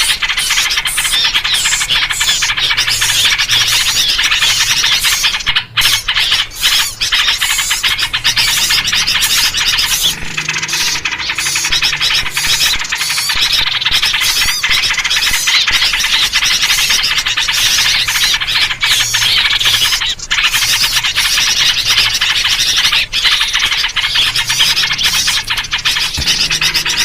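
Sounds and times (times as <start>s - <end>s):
small birds chattering: 0.0s - 27.0s.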